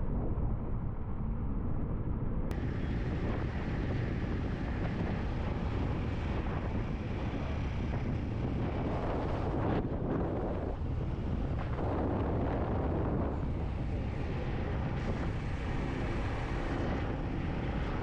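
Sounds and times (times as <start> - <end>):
wind rushing on microphone: 0.0 - 18.0.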